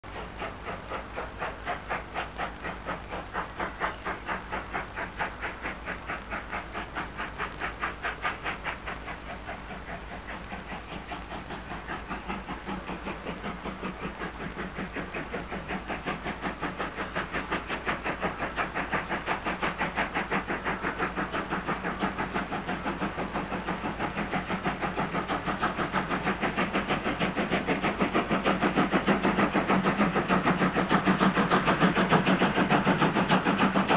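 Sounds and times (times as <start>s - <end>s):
steam locomotive chuffing: 0.0s - 33.9s.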